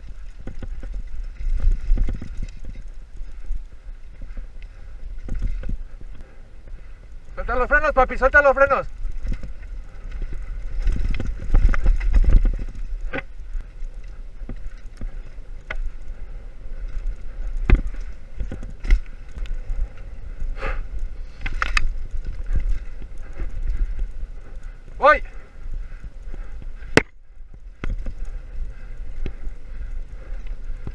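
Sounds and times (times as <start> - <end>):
bike rattling over bumps: 0.0 - 30.9.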